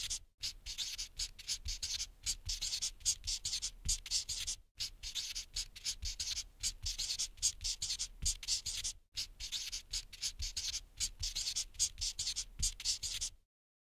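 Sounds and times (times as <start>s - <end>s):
marker pen scratching: 0.0s - 13.4s.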